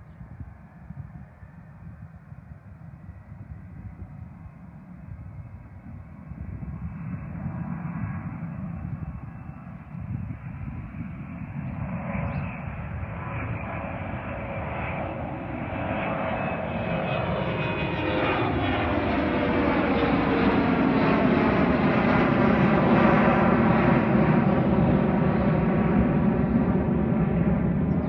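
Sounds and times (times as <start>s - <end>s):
jet engine whine: 0.0s - 28.0s
jet engine roar: 0.2s - 28.0s.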